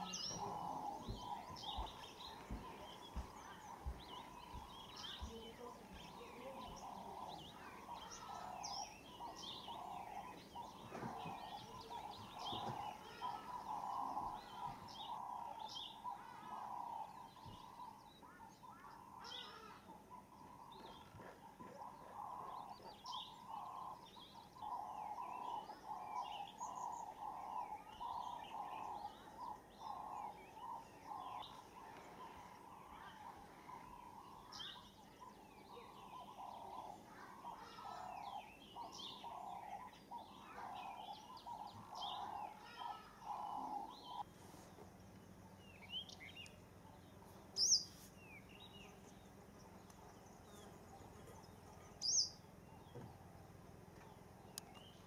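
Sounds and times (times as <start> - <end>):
birds chirping and whistling: 0.0 - 19.4, 20.0 - 44.3, 47.5 - 48.8, 51.9 - 53.1
low pulsing bird call: 0.0 - 53.3.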